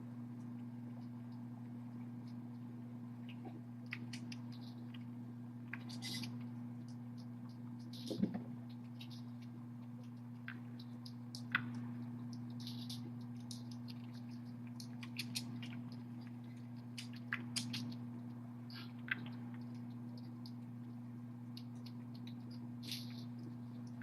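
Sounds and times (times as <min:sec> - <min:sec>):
low electrical hum: 0:00.0 - 0:24.0
kittens clicking and scratching: 0:00.3 - 0:24.0.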